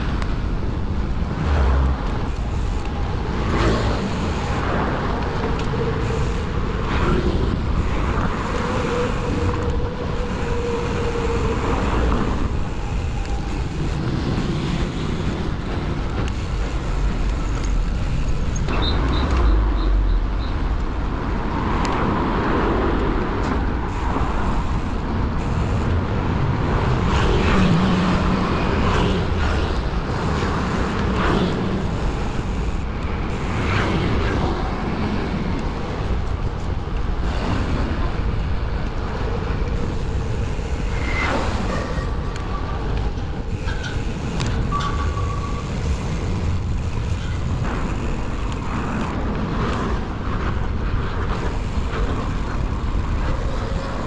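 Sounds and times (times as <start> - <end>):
cars and motor scooters: 0.0 - 54.0
wind rumbling on microphone: 0.0 - 54.0.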